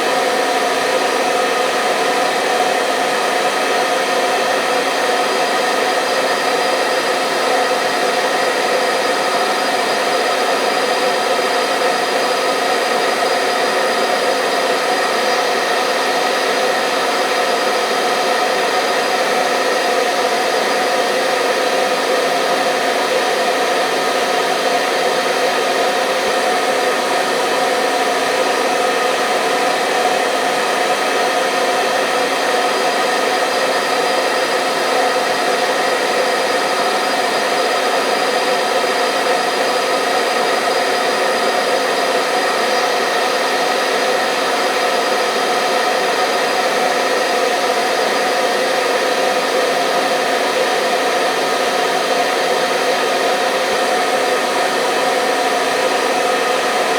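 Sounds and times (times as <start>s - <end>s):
hair dryer running: 0.0s - 56.9s.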